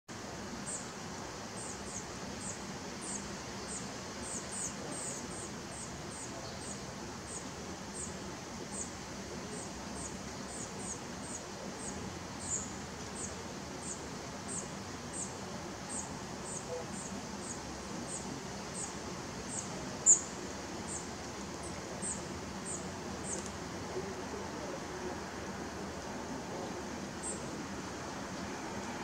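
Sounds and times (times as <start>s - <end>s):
rain hissing: 0.1s - 29.0s.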